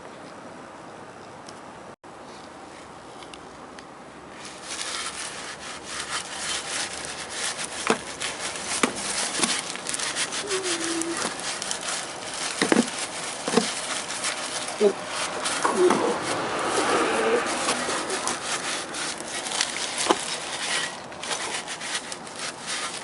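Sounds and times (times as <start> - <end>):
rag scrubbing on metal: 4.4 - 23.0.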